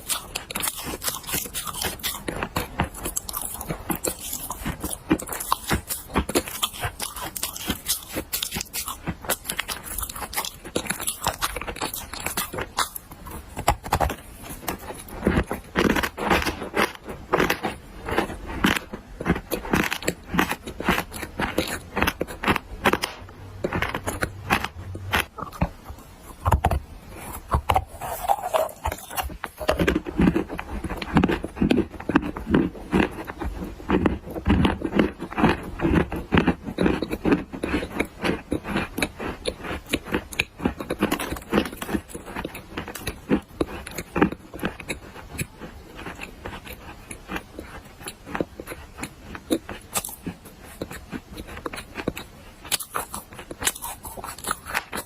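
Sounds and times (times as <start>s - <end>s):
clay being chewed crunching: 0.0s - 55.0s.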